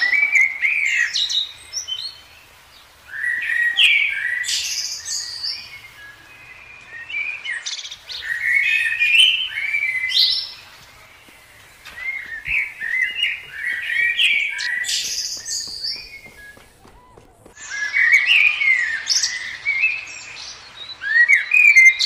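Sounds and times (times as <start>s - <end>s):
songbirds chirping and warbling: 0.0s - 22.0s.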